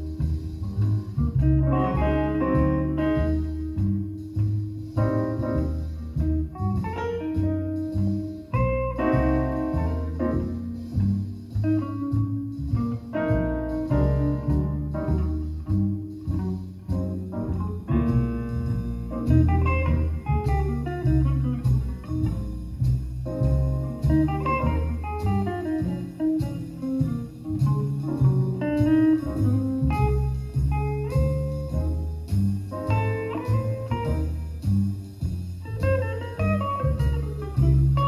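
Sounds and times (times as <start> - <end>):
guitar music with bass line: 0.0 - 38.0.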